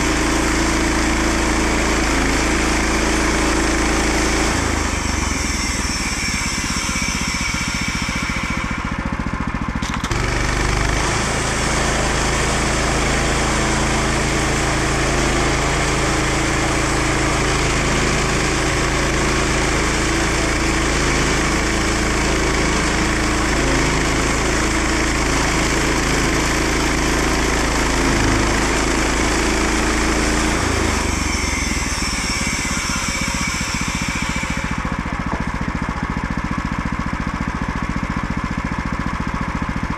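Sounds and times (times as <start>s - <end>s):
bandsaw blade cutting log: 0.0s - 39.9s
sawmill gasoline engine running: 0.0s - 39.9s.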